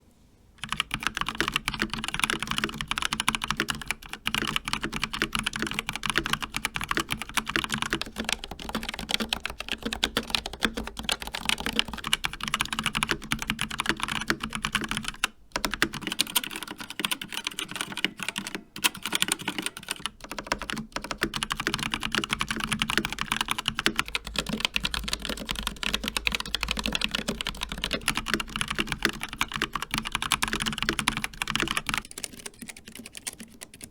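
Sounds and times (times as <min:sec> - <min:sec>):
mechanical keyboard typing: 0:00.6 - 0:33.9.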